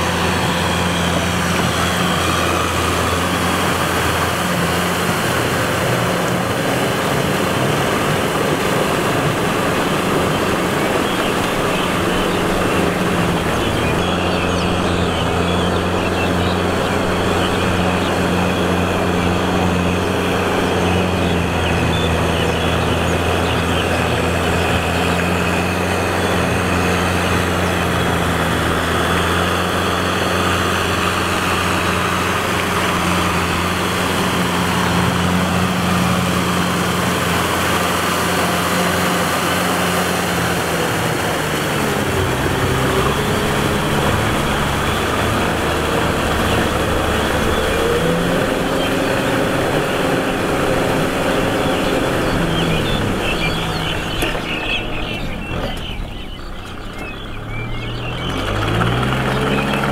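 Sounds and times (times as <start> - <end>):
diesel tractor engine: 0.0 - 59.9
rotavator churning mud and water: 0.0 - 59.9.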